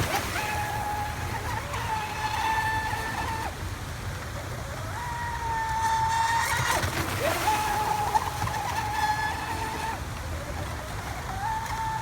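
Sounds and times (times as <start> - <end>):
rc boat motor whine: 0.0 - 12.0
water: 0.0 - 12.0.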